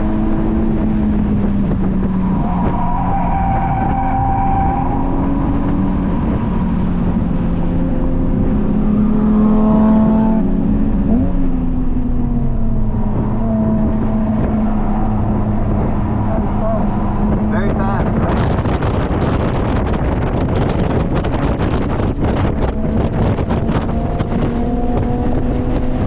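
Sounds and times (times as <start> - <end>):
car engine under load: 0.0 - 26.0
road and wind noise: 0.0 - 26.0.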